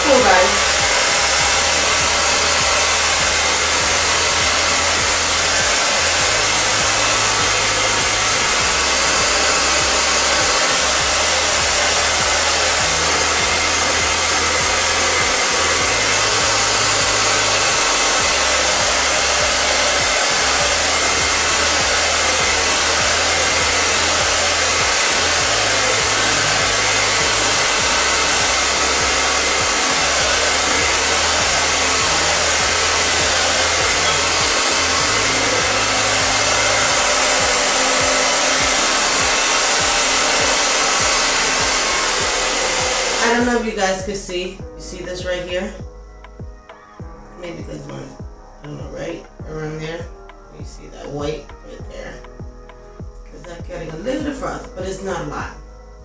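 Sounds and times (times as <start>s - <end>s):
hair dryer blowing: 0.0s - 44.6s, 47.4s - 50.1s.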